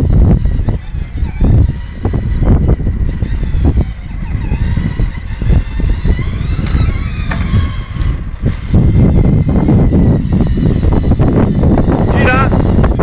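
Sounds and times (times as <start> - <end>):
toy car rumbling over concrete: 0.0 - 13.0
toy car jolts: 0.4 - 12.8.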